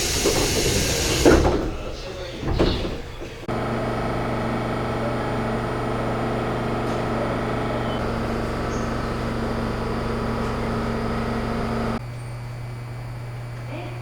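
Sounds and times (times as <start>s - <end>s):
train car electrical hum: 0.0s - 14.0s.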